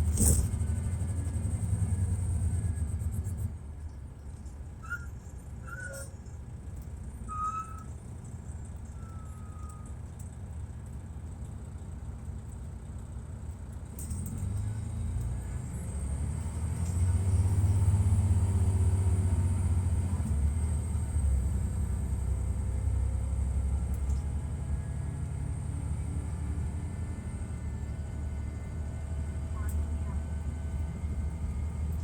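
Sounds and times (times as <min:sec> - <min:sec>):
diesel engine rumble: 0:00.0 - 0:32.0.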